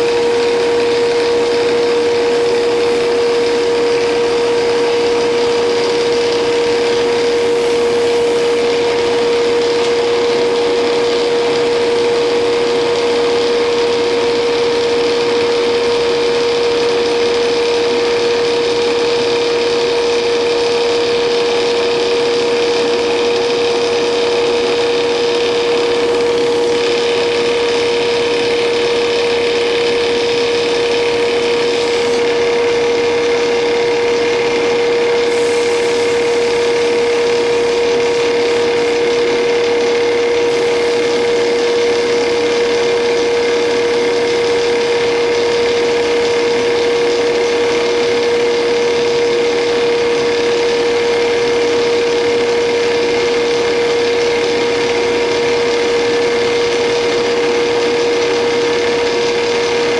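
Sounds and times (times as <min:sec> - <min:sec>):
lathe machine hum: 0:00.0 - 0:59.9
hiss: 0:00.2 - 0:59.9.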